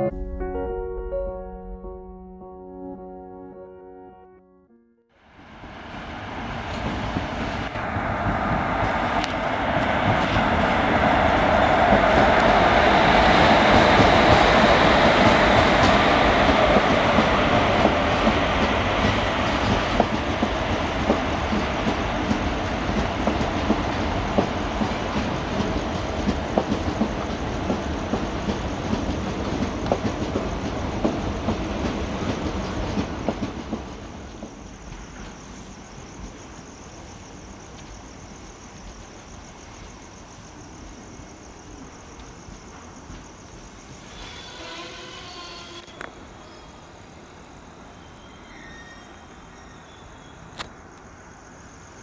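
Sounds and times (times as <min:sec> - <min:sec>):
train passing at speed: 0:05.2 - 0:52.0.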